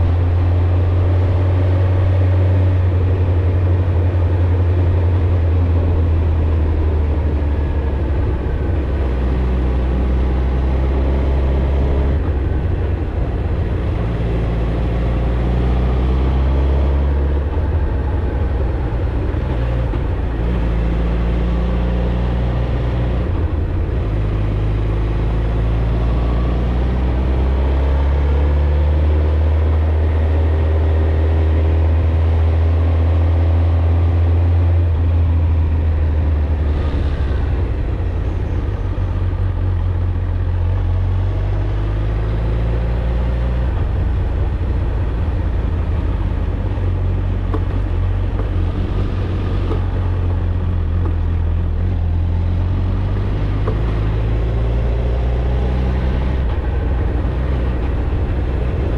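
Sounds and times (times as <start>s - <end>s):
motorcycle engine and exhaust: 0.0s - 58.9s.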